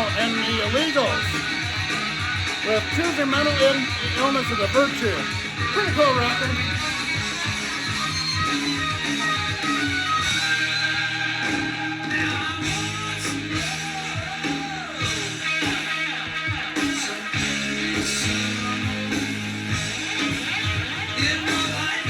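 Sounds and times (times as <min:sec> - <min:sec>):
guitar rock music from vinyl: 0:00.0 - 0:22.0.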